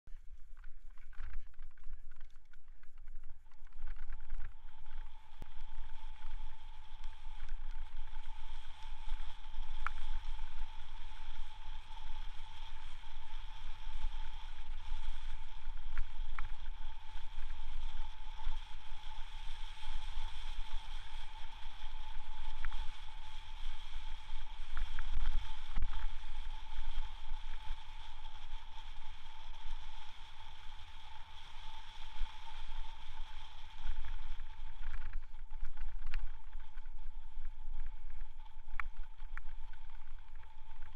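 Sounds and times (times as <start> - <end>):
bicycle rumbling on snow: 0.1 - 40.9
steady high whine: 0.1 - 40.9.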